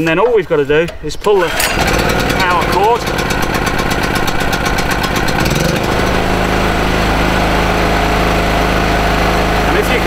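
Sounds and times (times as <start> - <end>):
generator engine running: 1.4 - 10.0.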